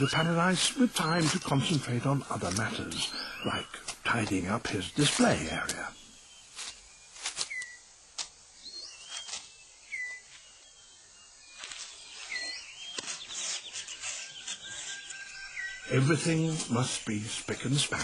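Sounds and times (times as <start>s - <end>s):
birds whistling: 0.0s - 18.0s
leaves and twigs rustling: 0.0s - 18.0s.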